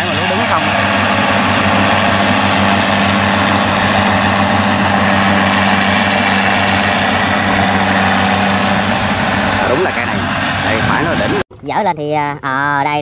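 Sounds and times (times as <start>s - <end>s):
diesel engine droning: 0.0s - 11.4s
whir of cutting gear: 0.0s - 11.4s.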